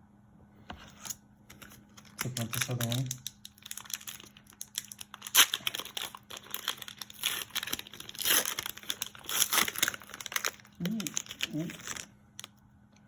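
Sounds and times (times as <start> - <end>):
foil wrapper crinkling and tearing: 1.0 - 12.5.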